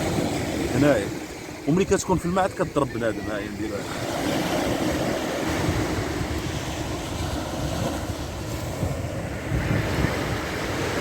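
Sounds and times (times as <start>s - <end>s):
sea waves washing on beach: 0.0s - 11.0s
wind buffeting microphone: 0.0s - 11.0s.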